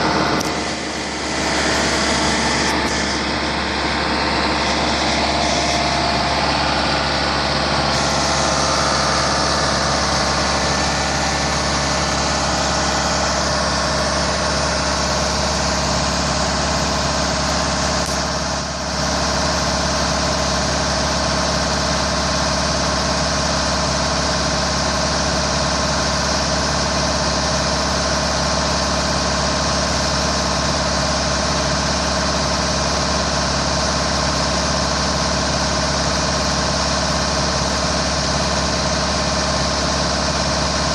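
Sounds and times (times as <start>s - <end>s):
hydraulic winch humming: 0.0s - 40.9s.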